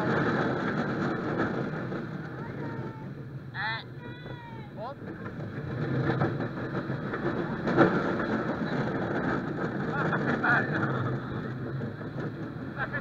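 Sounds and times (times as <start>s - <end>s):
roller coaster clunk: 0.0s - 13.0s
roller coaster wheels rattling: 0.0s - 13.0s.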